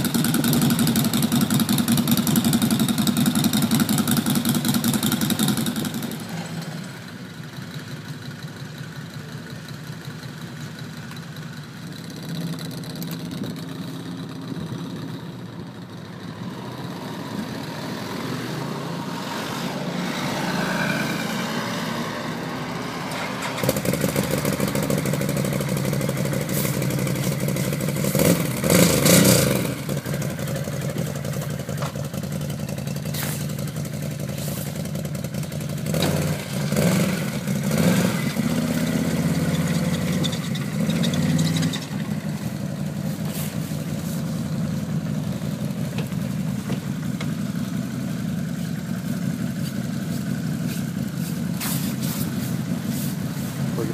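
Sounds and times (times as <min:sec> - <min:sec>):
atv engine revving: 0:00.0 - 0:07.0, 0:16.5 - 0:48.2, 0:49.0 - 0:53.9.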